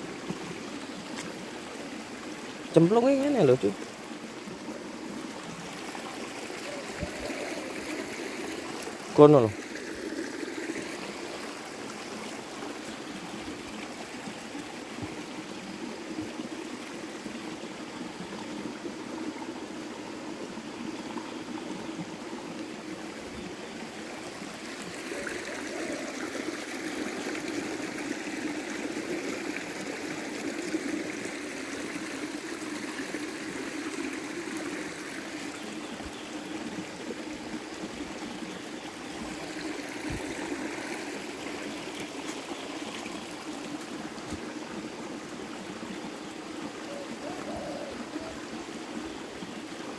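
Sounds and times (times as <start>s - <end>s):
stream trickling over stones: 0.0s - 49.9s.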